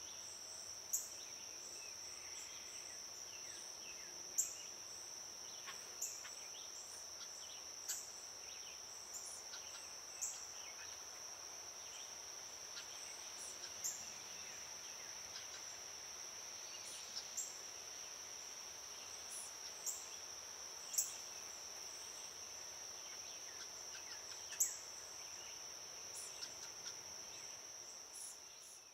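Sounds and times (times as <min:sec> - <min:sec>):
crickets trilling: 0:00.0 - 0:28.9.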